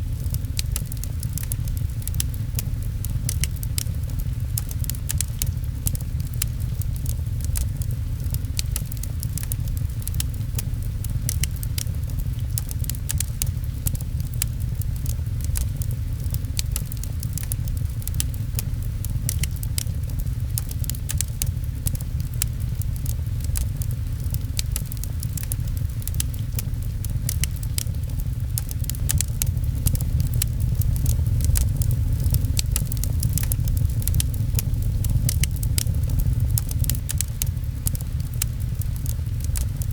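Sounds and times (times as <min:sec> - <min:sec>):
rain low rumble: 0:00.0 - 0:39.9
wood fire crackling and popping: 0:00.0 - 0:39.9.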